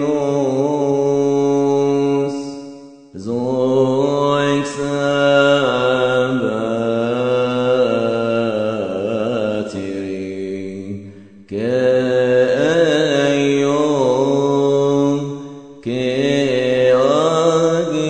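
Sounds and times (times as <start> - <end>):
person chanting a hymn: 0.0 - 2.6, 3.2 - 18.0.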